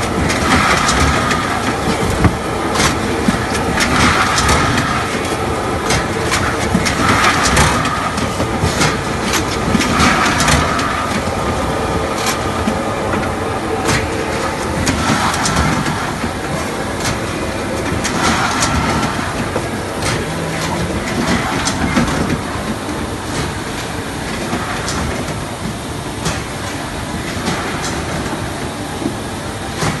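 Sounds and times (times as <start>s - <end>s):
sharp machine clacks: 0.0s - 25.4s
machinery mechanical din: 0.0s - 30.0s.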